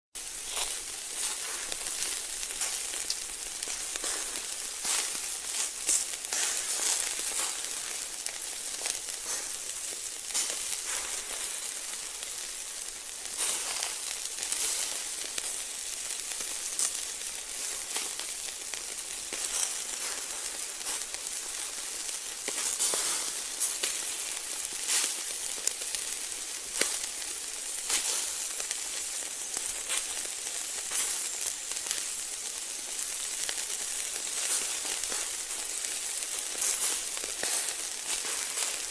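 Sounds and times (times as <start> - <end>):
food sizzling in hot oil: 0.2 - 38.9.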